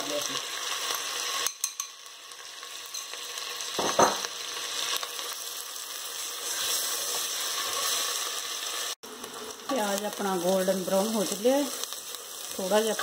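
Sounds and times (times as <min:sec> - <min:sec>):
paste sizzling in ghee: 0:00.0 - 0:13.0.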